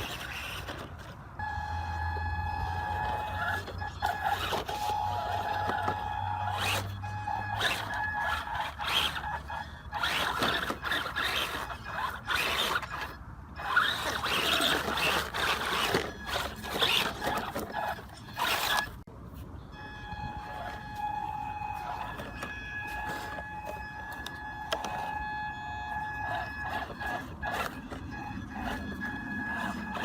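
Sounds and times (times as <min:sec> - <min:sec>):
electric motor whine: 0:00.0 - 0:19.0, 0:19.8 - 0:30.0
toy truck tyres scraping ground: 0:00.0 - 0:30.0.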